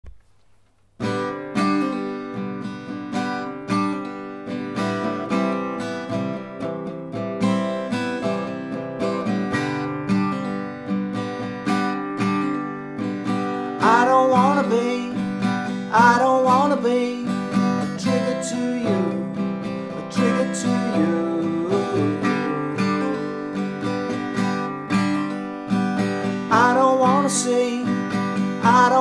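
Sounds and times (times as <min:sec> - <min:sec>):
acoustic guitar chords: 0:00.0 - 0:29.0.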